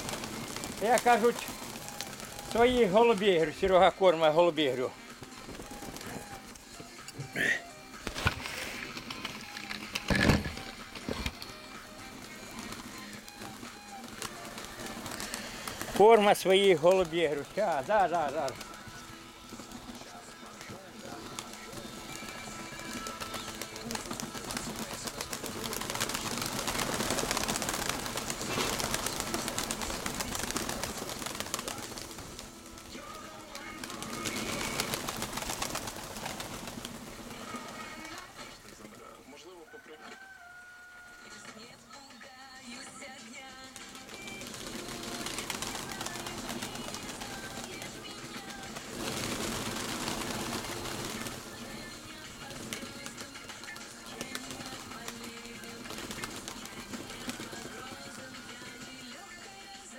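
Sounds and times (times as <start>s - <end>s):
pigeons clicking and fluttering: 0.0s - 39.2s, 43.2s - 59.9s
pigeons cooing: 0.0s - 39.2s, 42.8s - 59.9s
wings flapping: 0.0s - 39.2s, 42.6s - 59.9s.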